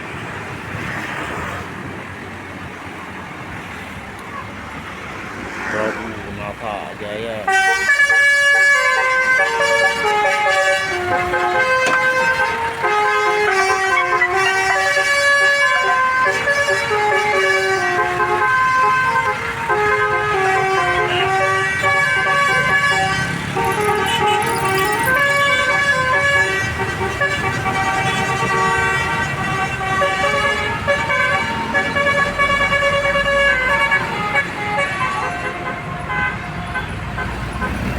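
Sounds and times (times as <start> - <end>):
multi-tone air horn melody: 7.4 - 37.8.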